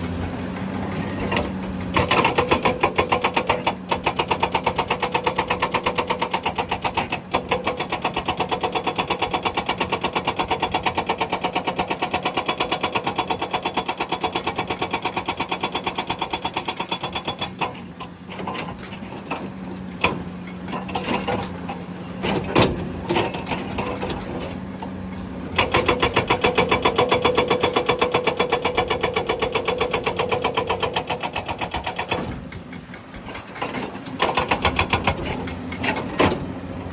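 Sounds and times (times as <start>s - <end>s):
excavator engine running: 0.0s - 36.9s
hydraulic breaker hammering rock: 0.6s - 36.6s.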